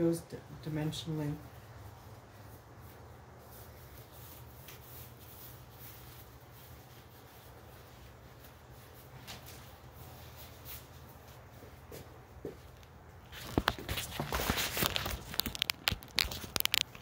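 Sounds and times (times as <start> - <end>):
gloves rustling: 1.1 - 17.0.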